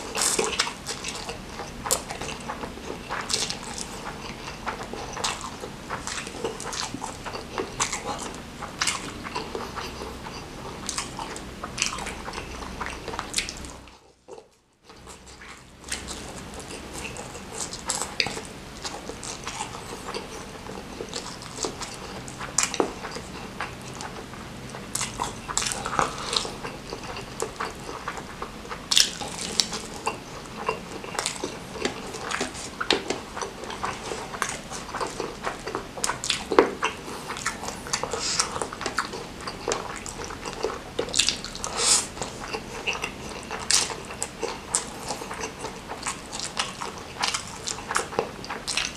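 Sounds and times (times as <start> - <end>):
wet chewing and lip smacking: 0.0 - 48.9.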